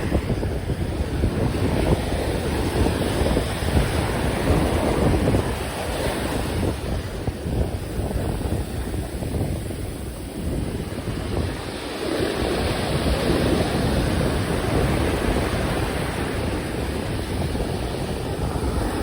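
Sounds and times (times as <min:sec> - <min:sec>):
ocean waves breaking on beach: 0:00.0 - 0:19.0
wind buffeting microphone: 0:00.0 - 0:19.0.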